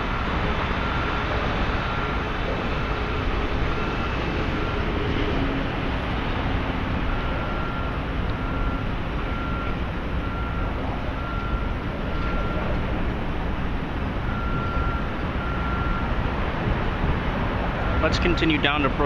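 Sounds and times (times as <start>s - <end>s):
reversing alarm beeping: 0.0s - 16.2s, 17.9s - 19.0s
traffic roar: 0.0s - 19.0s.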